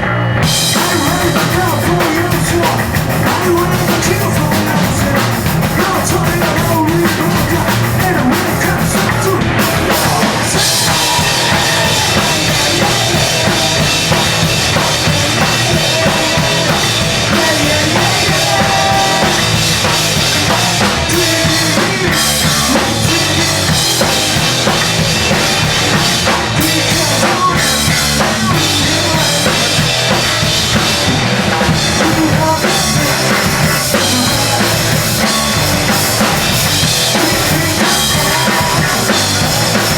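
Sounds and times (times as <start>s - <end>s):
live rock band playing loud: 0.0s - 39.9s
pounding bass drum and snare: 0.4s - 39.9s.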